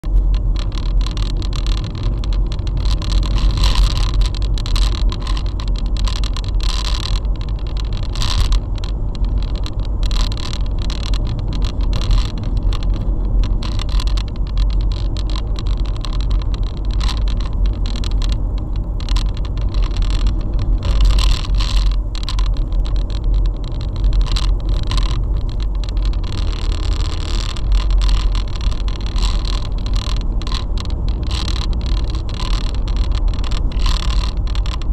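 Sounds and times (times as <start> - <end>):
crackling clicks: 0.0 - 34.9
engine and tyre rumble: 0.0 - 34.9.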